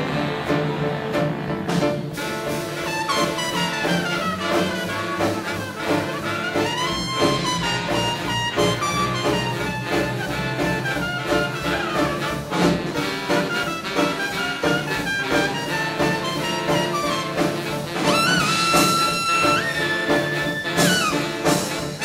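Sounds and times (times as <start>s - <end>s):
big band playing swing jazz: 0.0s - 22.0s.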